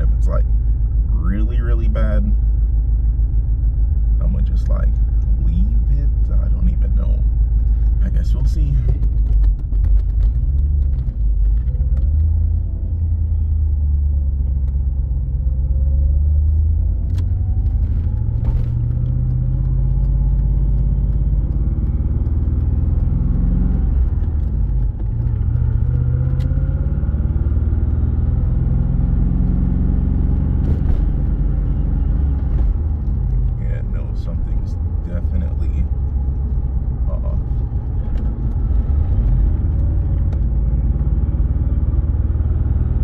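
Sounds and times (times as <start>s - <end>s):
car engine rumbling and revving: 0.0s - 43.0s.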